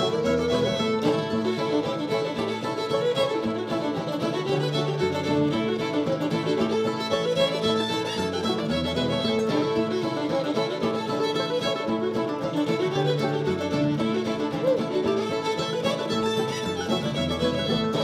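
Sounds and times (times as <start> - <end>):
acoustic guitar: 0.0 - 18.0
banjo: 0.0 - 18.0
fiddle melody: 0.0 - 18.0
mandolin: 0.0 - 18.0.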